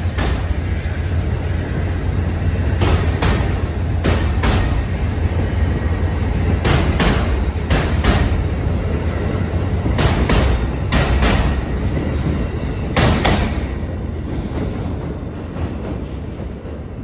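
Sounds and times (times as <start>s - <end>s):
train coaches rumbling past: 0.0s - 17.0s.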